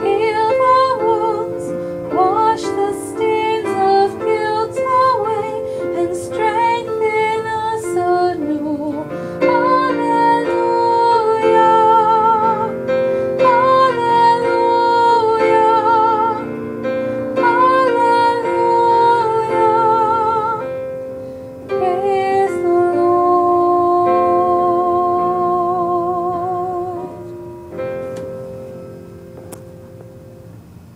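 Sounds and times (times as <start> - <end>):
woman singing a hymn with vibrato: 0.0 - 21.0, 21.6 - 27.6.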